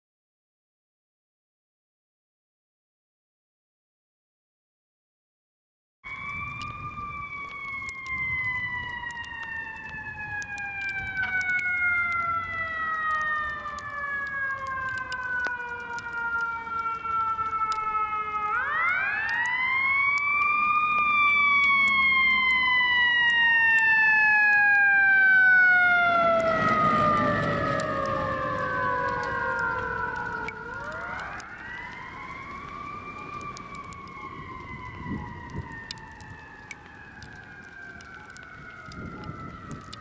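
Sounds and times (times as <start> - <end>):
fire truck siren: 6.0 - 40.0.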